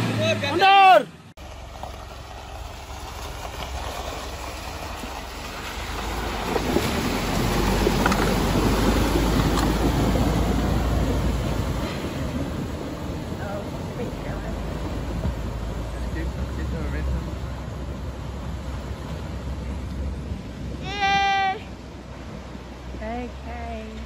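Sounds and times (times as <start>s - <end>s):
engine running low: 0.0s - 24.0s
water rushing and splashing: 0.0s - 24.0s.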